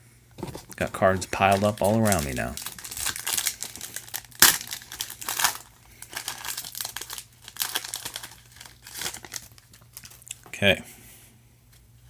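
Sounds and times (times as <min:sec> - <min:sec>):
foil wrapper crinkling: 0:00.6 - 0:10.5.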